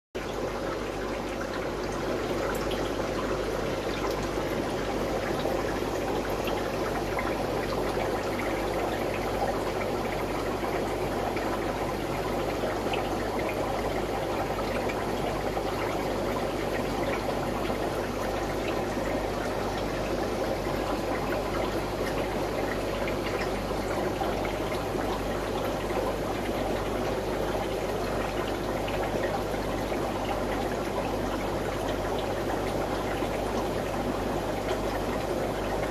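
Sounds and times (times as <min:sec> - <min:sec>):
aquarium water trickling: 0:00.2 - 0:35.9.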